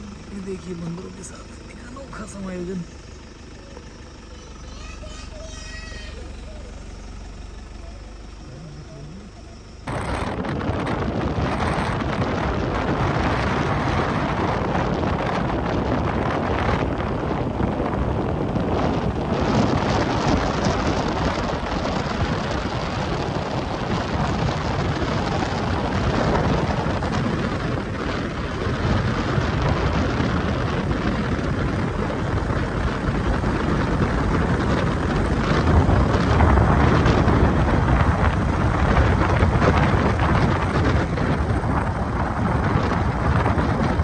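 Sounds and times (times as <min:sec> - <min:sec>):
car driving on paved road: 0:00.0 - 0:44.0
wind buffeting the microphone: 0:03.9 - 0:44.0.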